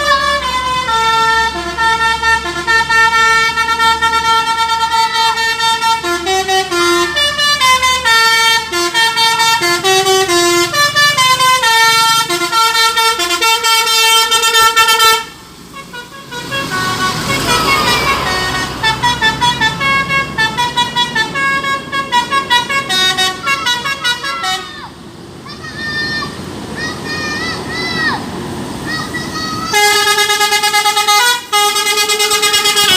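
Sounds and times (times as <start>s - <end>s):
multi-tone bus horn tune: 0.0s - 24.9s, 29.7s - 32.9s.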